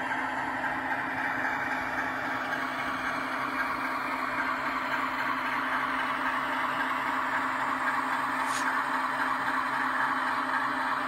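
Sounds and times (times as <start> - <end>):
model locomotive engine sound: 0.0 - 11.0.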